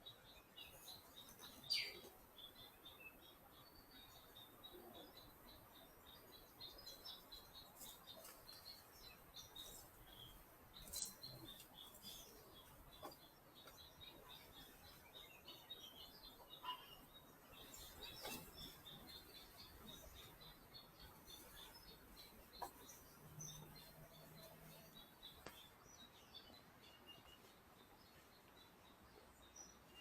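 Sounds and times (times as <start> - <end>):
faint birdsong chirps: 0.0 - 30.0.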